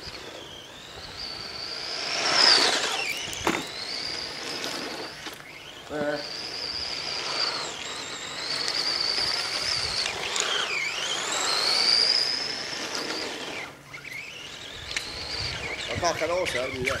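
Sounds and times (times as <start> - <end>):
toy car motor whining: 0.0 - 17.0.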